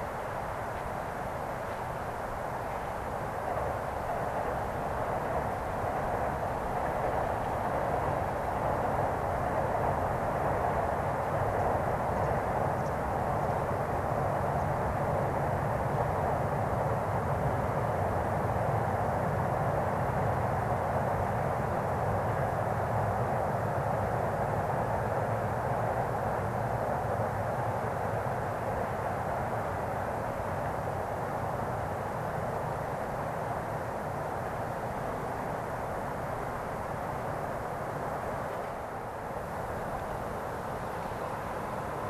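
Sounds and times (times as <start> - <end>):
distant train rumbling over bridge: 0.0 - 42.0.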